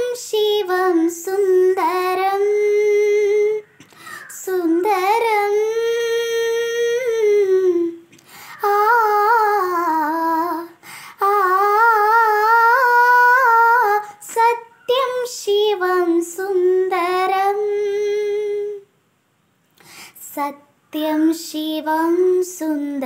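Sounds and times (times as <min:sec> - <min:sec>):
girl singing unaccompanied: 0:00.0 - 0:19.0, 0:19.9 - 0:23.0.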